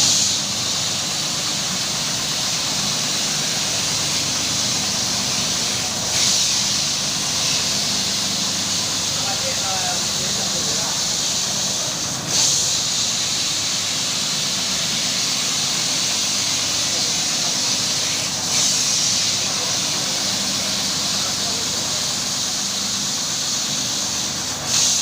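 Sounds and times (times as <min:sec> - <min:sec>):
water hissing: 0:00.0 - 0:25.0.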